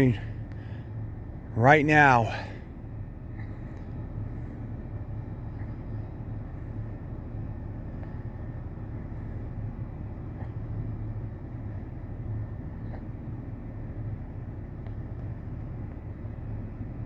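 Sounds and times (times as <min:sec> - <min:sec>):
distant locomotive rumble: 0:00.0 - 0:17.0.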